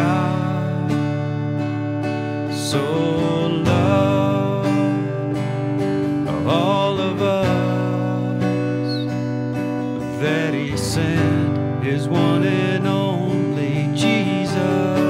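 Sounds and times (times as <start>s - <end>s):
man singing: 0.0s - 1.4s, 2.5s - 5.5s, 6.2s - 9.2s, 9.9s - 15.0s
acoustic guitar strummed: 0.0s - 15.0s.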